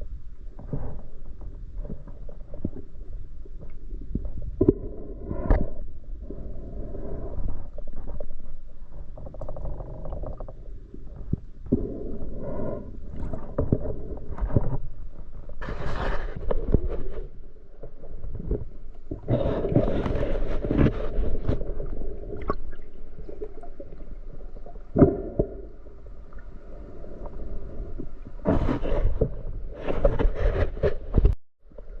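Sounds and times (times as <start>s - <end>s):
underwater bubbling: 0.0s - 30.2s.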